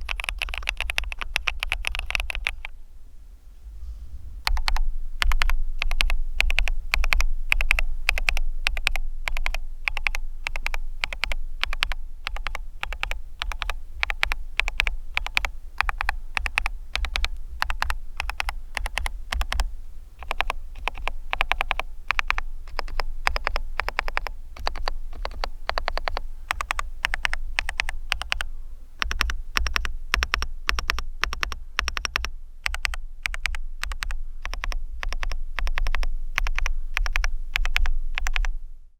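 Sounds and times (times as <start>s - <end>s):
fast typing on mechanical keyboard: 0.0s - 2.7s, 4.5s - 38.5s.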